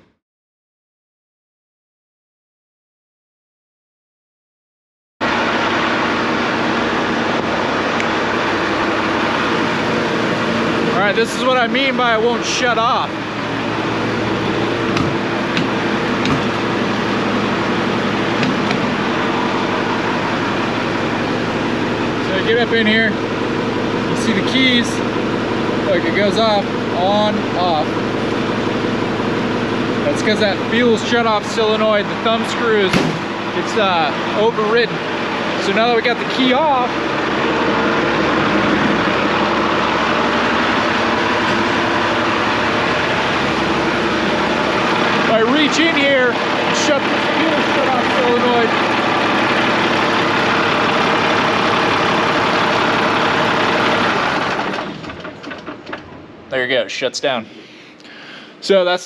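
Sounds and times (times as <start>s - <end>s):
diesel engine idling: 5.2s - 59.0s.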